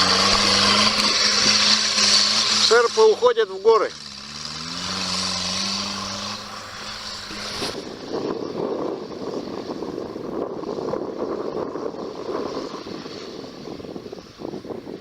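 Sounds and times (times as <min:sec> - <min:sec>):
rough fluttering rumble: 0:00.0 - 0:15.0
vehicle engines humming: 0:00.0 - 0:15.0.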